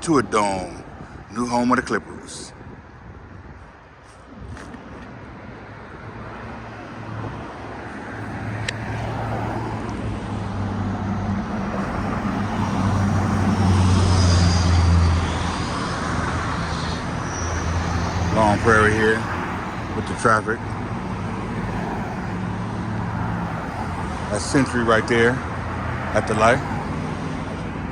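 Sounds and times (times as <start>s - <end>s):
vehicle engine hum: 2.6s - 27.9s.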